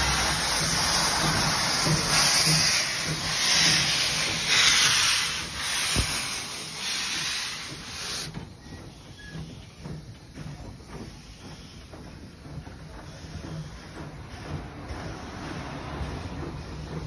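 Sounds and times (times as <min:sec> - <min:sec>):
steam hissing from cylinders: 0:00.0 - 0:17.0
steam locomotive running: 0:00.0 - 0:17.0.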